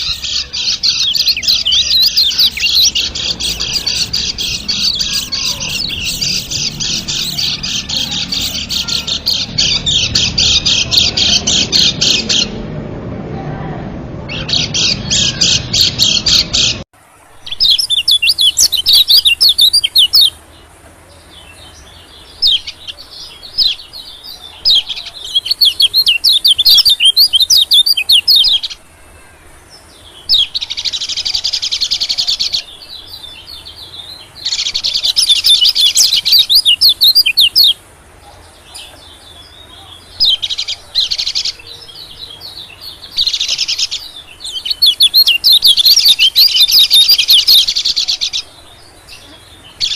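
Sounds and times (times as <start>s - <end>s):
birds chirping and twittering: 0.0s - 12.8s, 14.3s - 49.9s.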